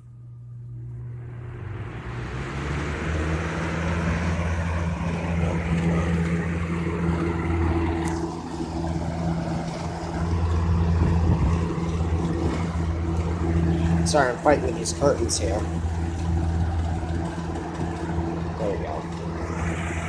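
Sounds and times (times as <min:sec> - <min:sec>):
electric motor hum: 0:00.0 - 0:20.0
fan air rushing: 0:00.0 - 0:20.0.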